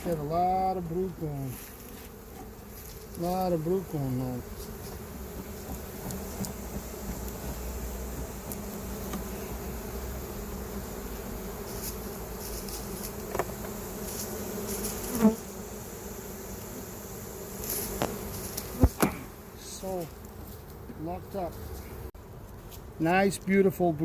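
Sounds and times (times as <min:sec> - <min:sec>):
honey bees buzzing: 0:00.0 - 0:24.0.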